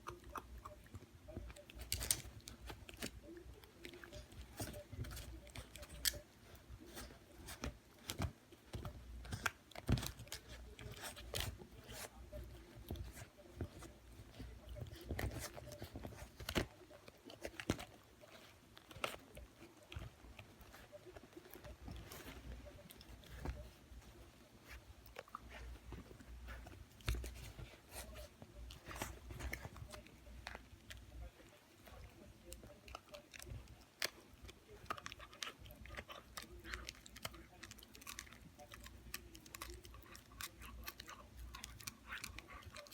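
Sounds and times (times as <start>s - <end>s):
puppy gnawing on chew: 0.0s - 42.9s.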